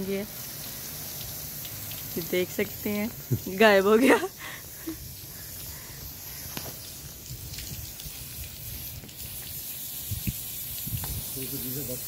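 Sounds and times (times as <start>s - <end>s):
hose spray hissing: 0.0s - 12.0s.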